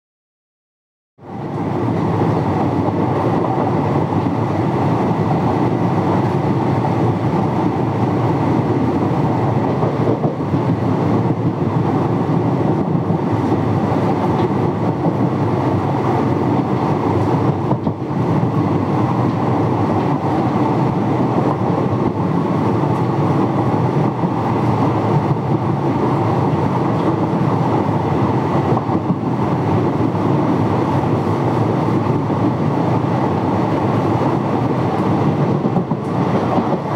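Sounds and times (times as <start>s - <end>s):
train wheels rumbling on rails: 1.2s - 36.9s.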